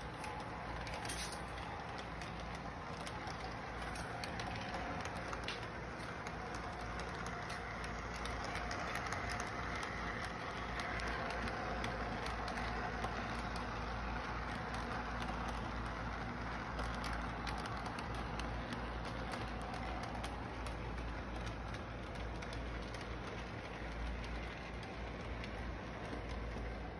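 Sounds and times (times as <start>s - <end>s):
model train motor hum: 0.0s - 26.9s
wheels ticking over rails: 0.0s - 26.9s.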